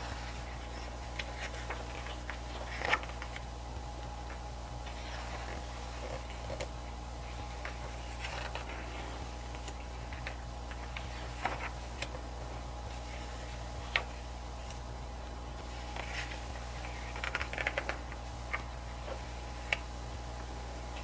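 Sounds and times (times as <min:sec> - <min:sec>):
pages being turned: 0:00.0 - 0:03.5, 0:04.2 - 0:14.9, 0:15.6 - 0:19.9
steady low hum: 0:00.0 - 0:21.0.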